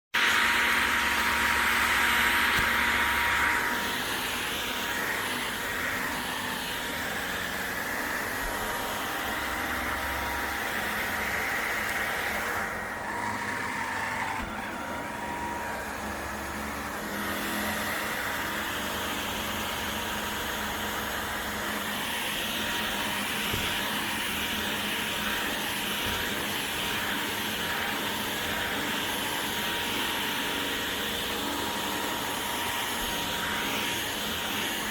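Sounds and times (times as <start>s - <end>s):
vacuum cleaner whirring: 0.1s - 34.9s.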